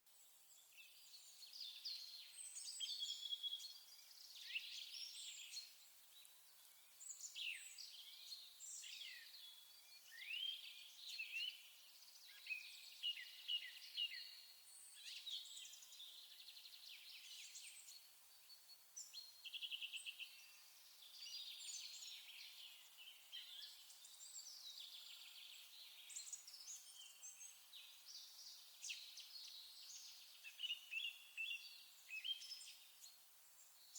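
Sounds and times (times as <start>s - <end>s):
birds singing and chirping: 1.3s - 33.9s.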